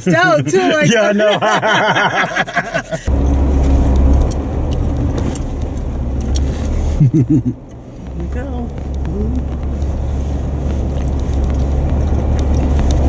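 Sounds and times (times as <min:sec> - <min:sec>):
vehicle engine droning: 0:00.8 - 0:13.0.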